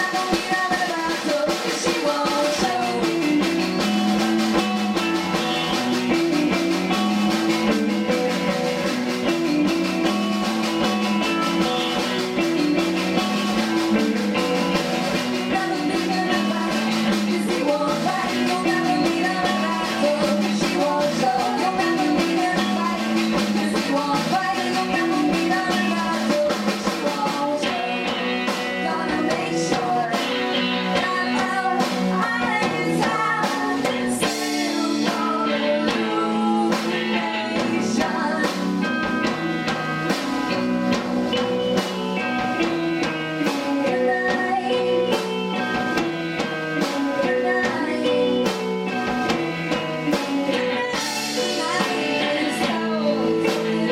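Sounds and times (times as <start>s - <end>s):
woman singing: 0.0s - 40.2s, 43.4s - 53.9s
drum kit: 0.0s - 53.9s
electric guitars: 0.0s - 53.9s.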